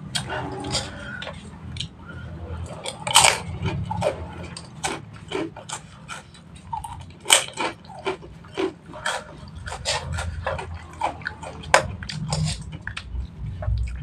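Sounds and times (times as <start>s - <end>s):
mouth eating noodles: 0.0s - 13.1s
lip smacks and chewing: 2.6s - 14.0s.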